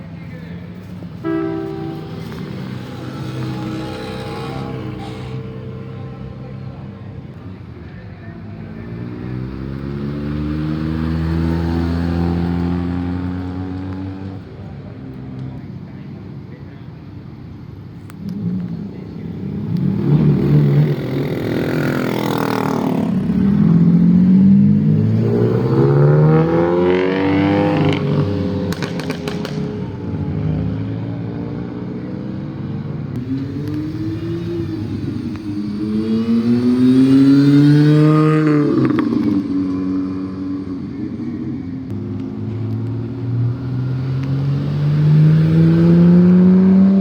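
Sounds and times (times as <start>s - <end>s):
car engines revving hard: 0.0s - 7.7s, 8.5s - 15.6s, 18.1s - 47.0s.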